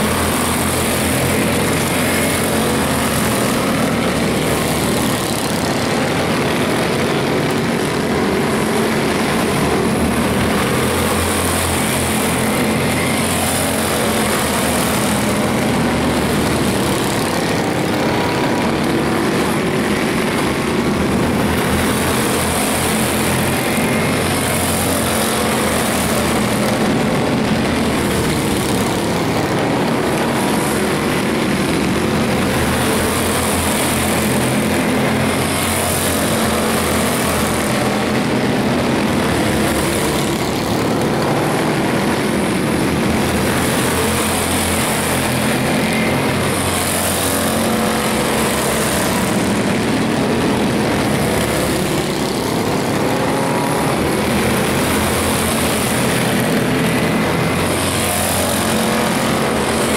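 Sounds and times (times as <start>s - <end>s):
small race car engines buzzing: 0.0s - 59.9s.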